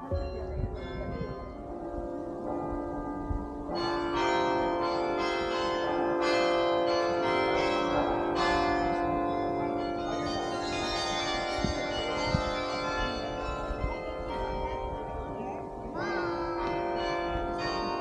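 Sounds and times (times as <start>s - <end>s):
carillon bells ringing: 0.0s - 18.0s.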